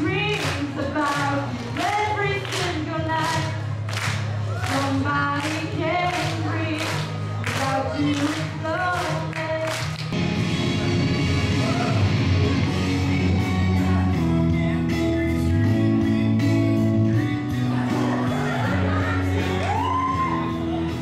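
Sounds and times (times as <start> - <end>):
song with held chords and bass: 0.0 - 21.0.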